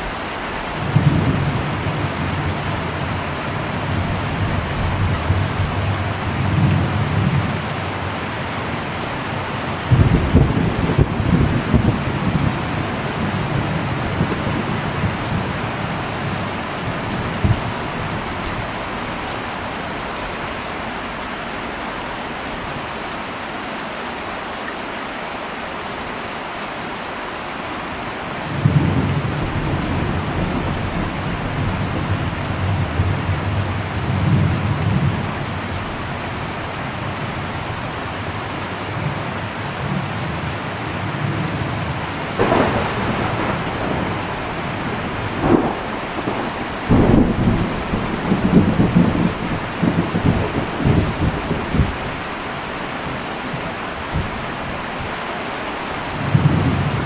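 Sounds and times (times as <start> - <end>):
thunder rumbling: 0.0 - 19.6, 28.5 - 55.2
heavy rain on metal roof: 0.0 - 57.0.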